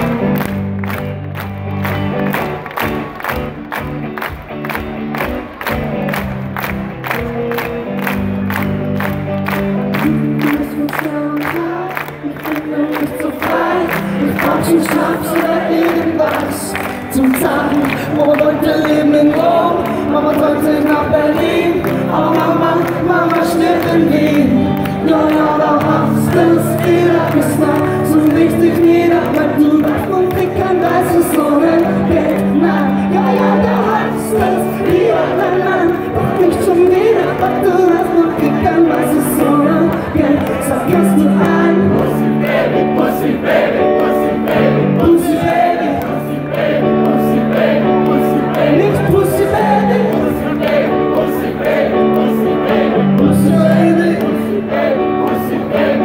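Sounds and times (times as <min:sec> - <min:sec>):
crowd noise: 0:00.0 - 0:56.0
electric guitars: 0:00.0 - 0:56.0
live rock band playing: 0:00.0 - 0:56.0
person singing: 0:09.8 - 0:56.0.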